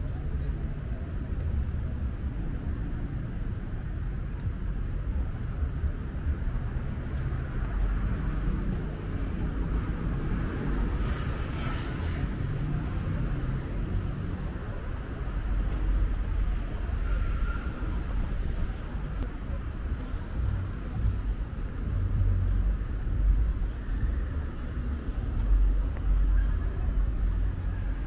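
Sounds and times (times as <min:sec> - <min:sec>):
low traffic rumble: 0:00.0 - 0:28.0.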